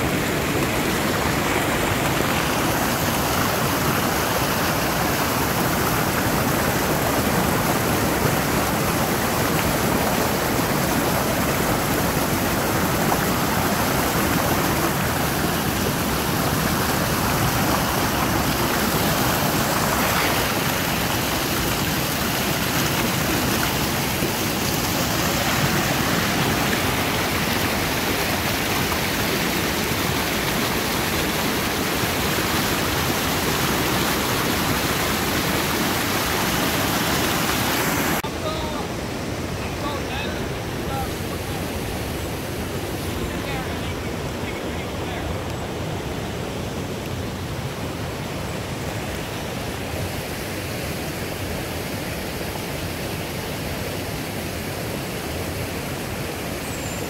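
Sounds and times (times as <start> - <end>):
water rushing over rapids: 0.0 - 57.0.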